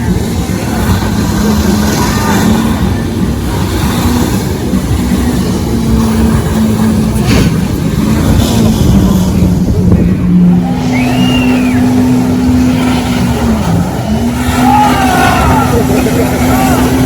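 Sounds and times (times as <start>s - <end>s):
loud engine running: 0.0s - 17.0s.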